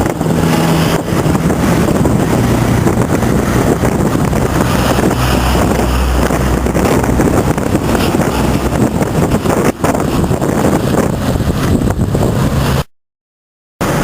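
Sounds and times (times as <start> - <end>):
heavy vehicle engine humming: 0.0 - 12.9
wind buffeting microphone: 0.0 - 12.9.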